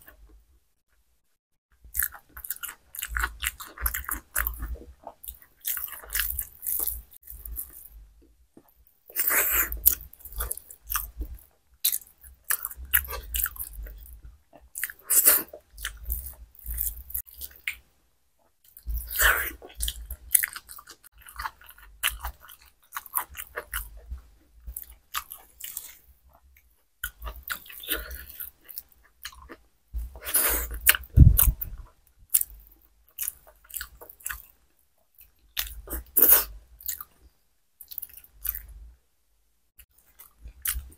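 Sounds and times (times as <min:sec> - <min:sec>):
chewing and wet mouth sounds: 0:01.8 - 0:38.8, 0:39.8 - 0:40.9.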